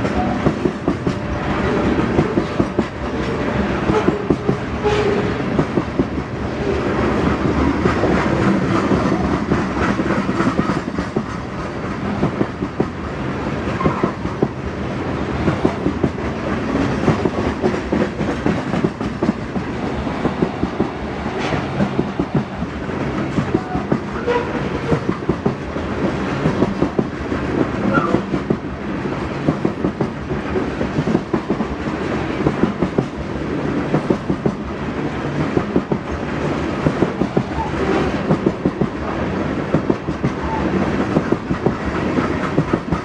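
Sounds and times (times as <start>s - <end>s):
train wheels clattering on rails: 0.0s - 43.0s.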